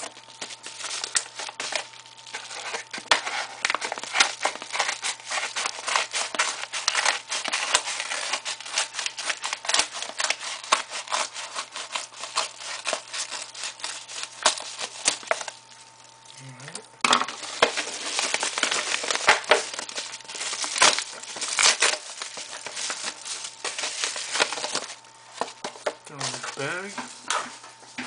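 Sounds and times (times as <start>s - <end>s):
envelope crinkling: 0.0s - 16.3s, 17.0s - 27.9s.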